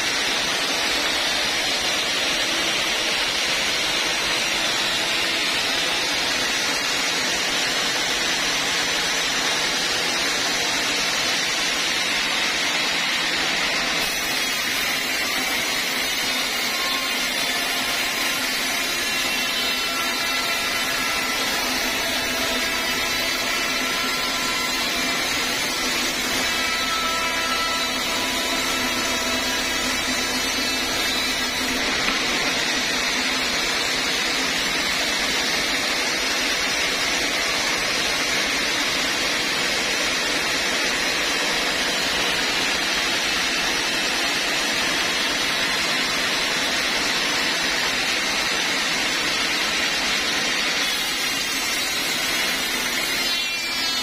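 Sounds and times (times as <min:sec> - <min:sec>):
band saw cutting log: 0:00.0 - 0:06.7, 0:10.0 - 0:54.0.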